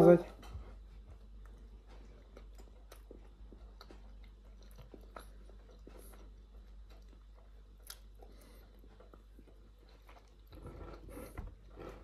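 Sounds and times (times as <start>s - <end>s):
faint chewing: 0.2s - 12.0s.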